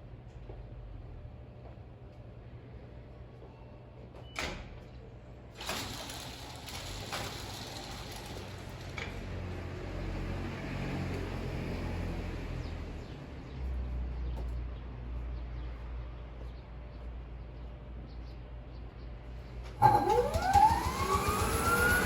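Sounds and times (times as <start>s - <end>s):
low mechanical hum: 0.0s - 10.3s, 13.4s - 22.0s.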